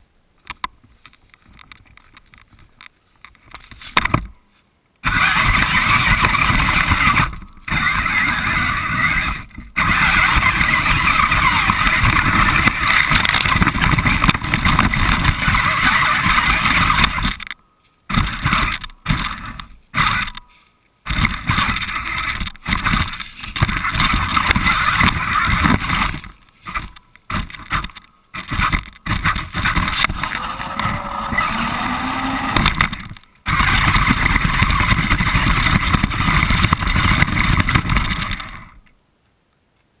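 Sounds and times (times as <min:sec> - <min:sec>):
rc car motor and wheel rumble: 0:05.0 - 0:39.0.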